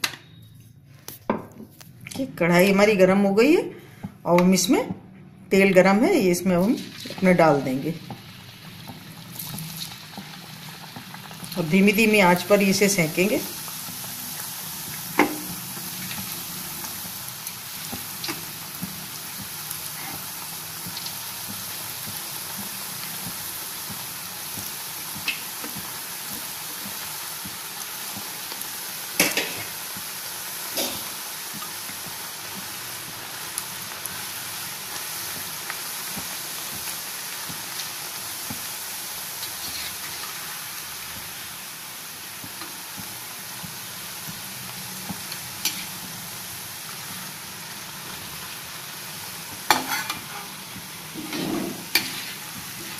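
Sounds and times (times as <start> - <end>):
chips sizzling in hot oil: 6.5 - 52.9.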